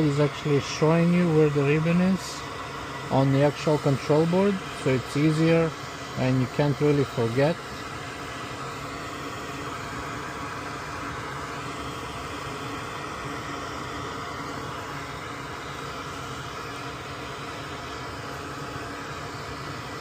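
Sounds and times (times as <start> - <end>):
fan whirring: 0.0 - 20.0.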